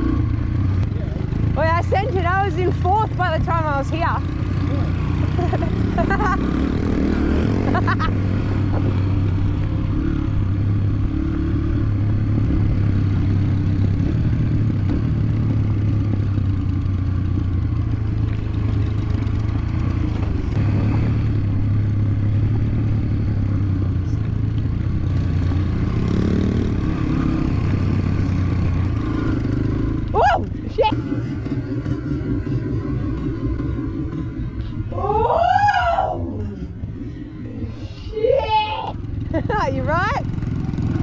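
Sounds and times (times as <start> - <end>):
motorcycle engine running: 0.0 - 38.1, 38.7 - 41.0.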